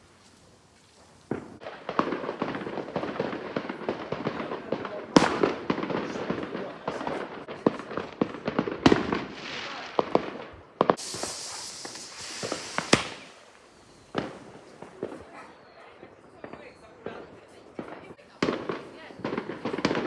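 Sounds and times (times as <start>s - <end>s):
fireworks crackling pops: 0.0s - 20.0s
hissing crackle: 0.0s - 20.0s
loud fireworks bangs: 1.3s - 20.0s.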